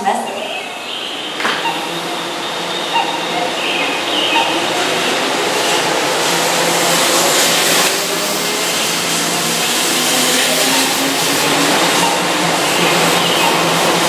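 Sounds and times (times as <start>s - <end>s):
train wheels rumbling: 0.0s - 14.0s
train motor tone rising: 0.8s - 14.0s.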